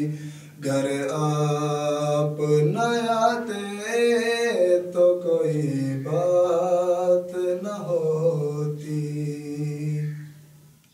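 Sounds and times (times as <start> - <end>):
man singing: 0.0 - 10.3.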